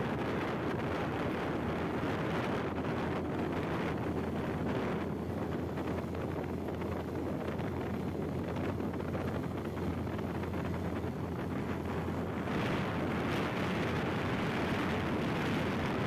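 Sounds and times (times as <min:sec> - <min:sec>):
motorcycle engine drone: 0:00.0 - 0:16.0
wind buffeting microphone: 0:00.0 - 0:16.0.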